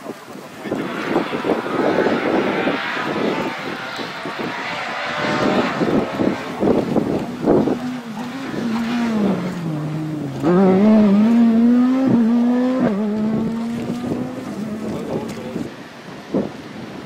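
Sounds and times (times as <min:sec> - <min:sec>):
rally car engine accelerating: 0:00.6 - 0:15.7.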